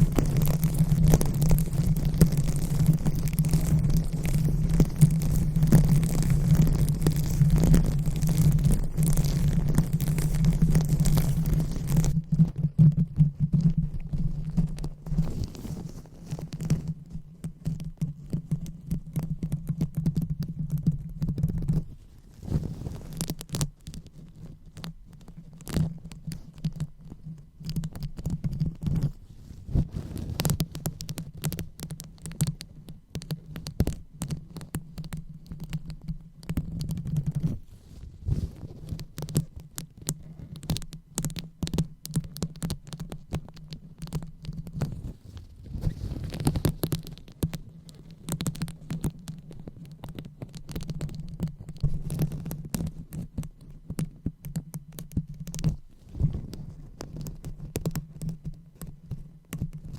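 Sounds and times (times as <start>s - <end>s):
fingers scratching on microphone: 0.0s - 59.9s.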